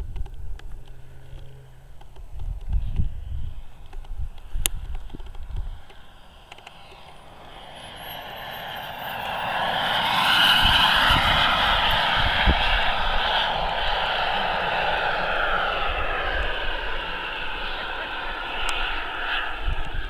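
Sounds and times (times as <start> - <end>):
model jet turbine whine: 0.0 - 20.0.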